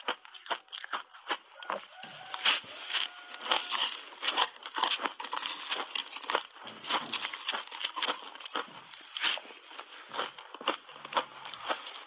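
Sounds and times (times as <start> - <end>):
ice crunched between teeth: 0.0 - 12.0.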